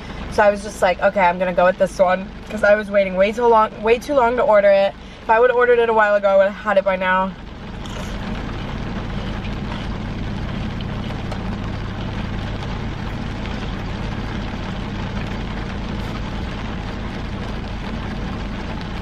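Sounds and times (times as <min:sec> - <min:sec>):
car engine idling: 0:00.0 - 0:19.0
rain pattering on car: 0:00.0 - 0:19.0.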